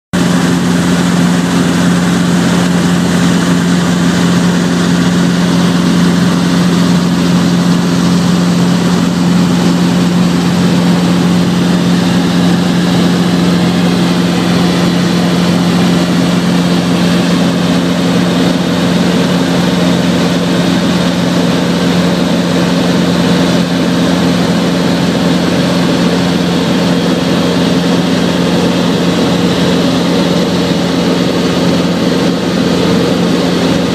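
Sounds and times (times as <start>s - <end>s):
helicopter engine and rotors droning: 0.2s - 33.9s.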